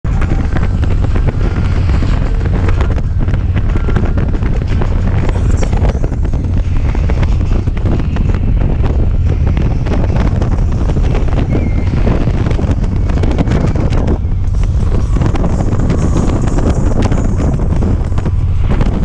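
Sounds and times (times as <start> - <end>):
motorcycle engine cruising: 0.0 - 19.0
wind buffeting microphone: 0.0 - 19.0.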